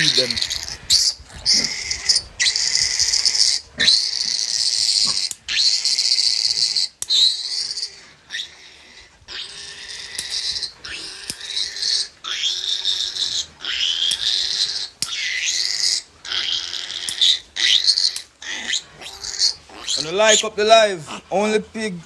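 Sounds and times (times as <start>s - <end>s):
piglet squealing: 0.0s - 21.4s.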